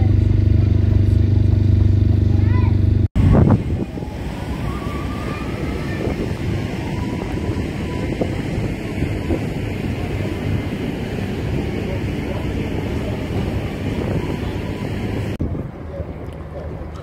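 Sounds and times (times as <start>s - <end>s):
wind buffeting microphone: 3.1s - 17.0s.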